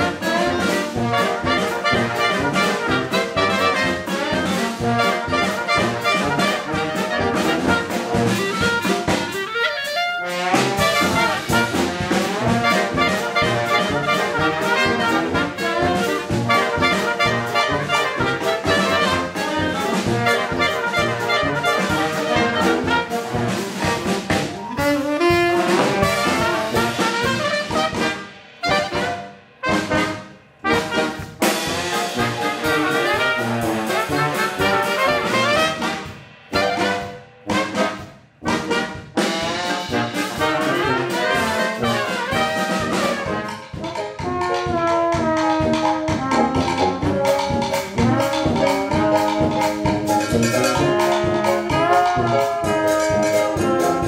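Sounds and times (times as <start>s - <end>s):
dixieland band playing: 0.0s - 54.0s.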